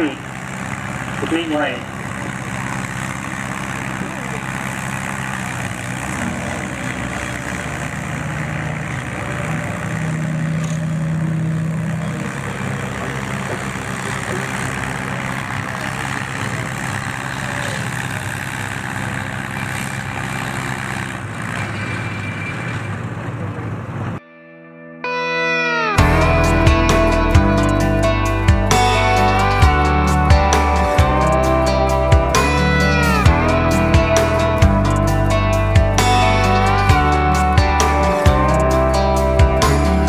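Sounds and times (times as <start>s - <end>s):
tractor engine running under load: 0.0s - 24.2s, 26.0s - 40.0s.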